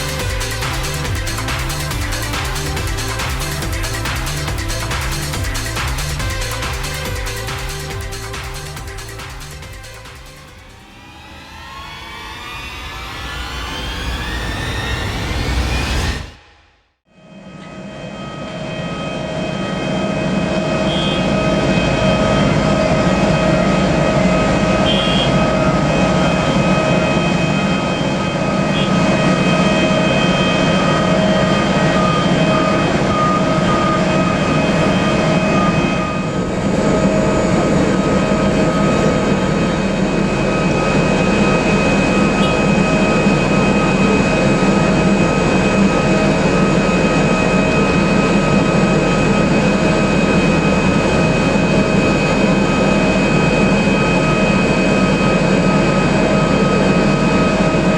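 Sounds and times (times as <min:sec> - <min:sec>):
jet engines whining and roaring: 0:00.0 - 0:57.9.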